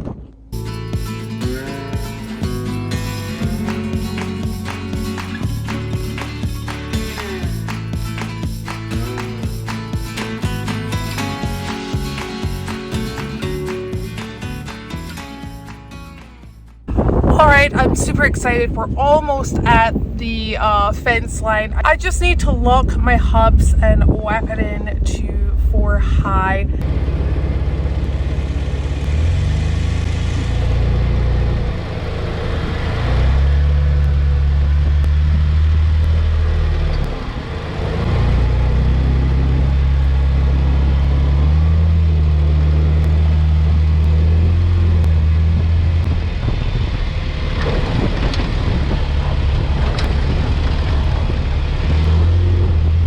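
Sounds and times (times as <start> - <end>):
off-road vehicle engine under load: 0.0 - 53.0.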